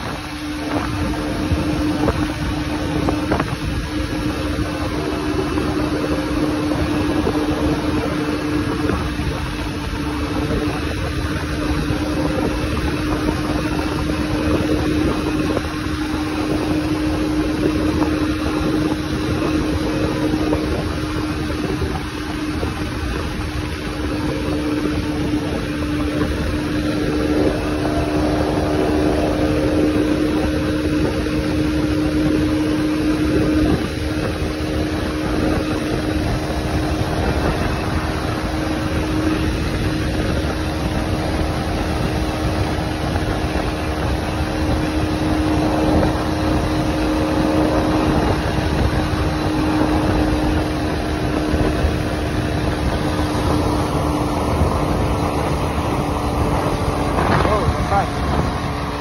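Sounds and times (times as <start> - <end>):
motorcycle engine drone: 0.0 - 59.0
rushing wind noise: 0.0 - 59.0.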